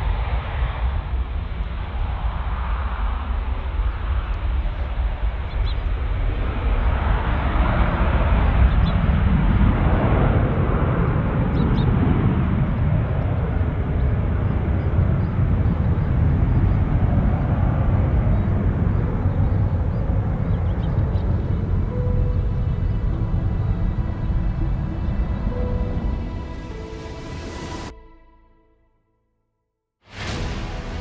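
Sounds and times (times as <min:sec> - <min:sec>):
jet taking off: 0:00.0 - 0:28.0.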